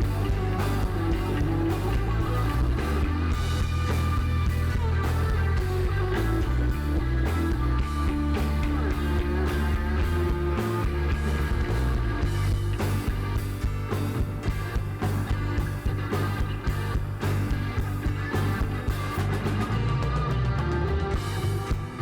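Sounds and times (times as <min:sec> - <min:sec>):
bass guitar: 0:00.0 - 0:22.0
drums playing steady beat: 0:00.0 - 0:22.0
electric guitar: 0:00.0 - 0:22.0.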